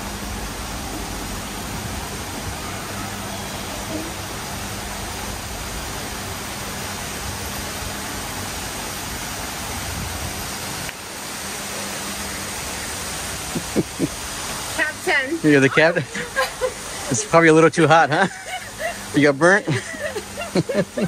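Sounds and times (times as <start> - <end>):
steady rushing noise: 0.0 - 19.8.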